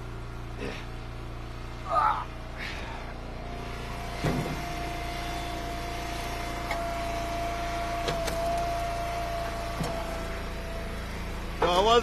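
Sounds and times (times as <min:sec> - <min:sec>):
wood splitter engine and hydraulic whine: 0:00.0 - 0:12.0.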